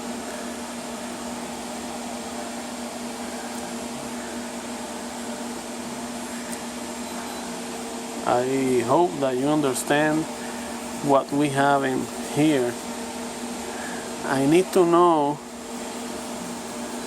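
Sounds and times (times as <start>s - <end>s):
electrical hum: 0.0s - 17.0s
fan-like whir: 0.0s - 17.0s.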